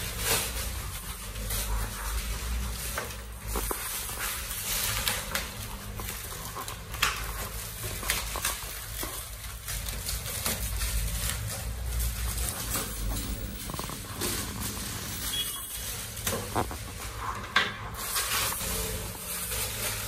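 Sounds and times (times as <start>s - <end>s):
packaging wrap crinkling: 0.0s - 20.0s.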